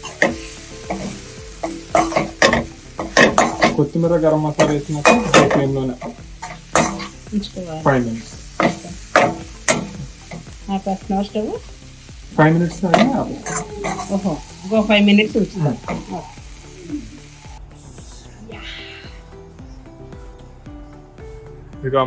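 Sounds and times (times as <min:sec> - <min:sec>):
frying sizzle: 0:00.0 - 0:17.7.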